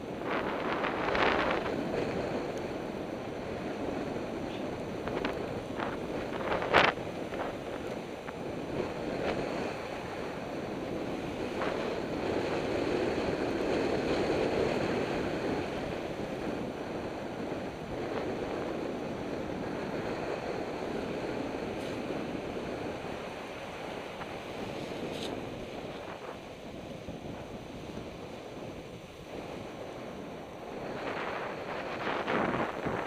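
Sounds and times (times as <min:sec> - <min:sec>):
longboard wheels rolling on asphalt: 0:00.0 - 0:33.0
wind rushing across microphone: 0:00.0 - 0:33.0.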